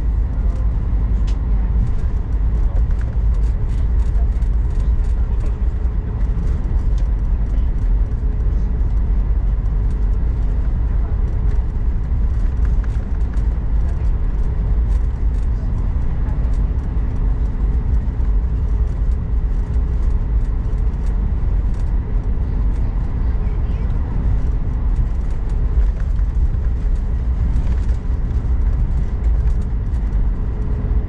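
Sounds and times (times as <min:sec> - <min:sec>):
aircraft cabin low rumble: 0:00.0 - 0:31.0
engine hum: 0:00.0 - 0:31.0.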